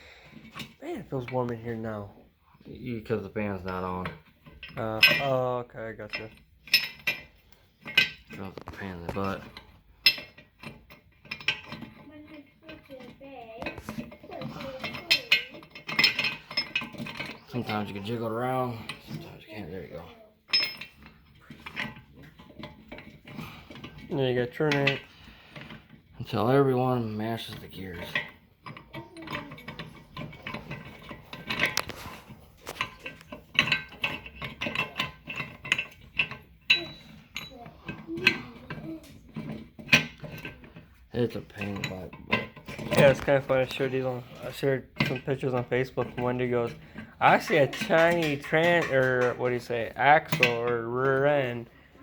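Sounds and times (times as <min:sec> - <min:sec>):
steel gears clinking and knocking: 0:03.1 - 0:52.0.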